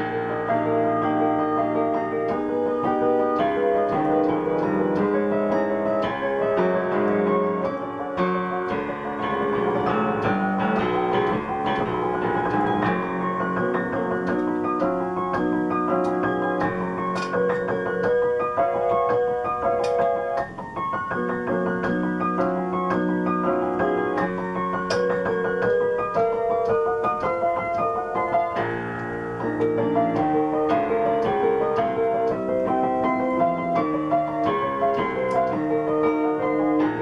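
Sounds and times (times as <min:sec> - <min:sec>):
electric piano chords and melody: 0:00.0 - 0:37.0.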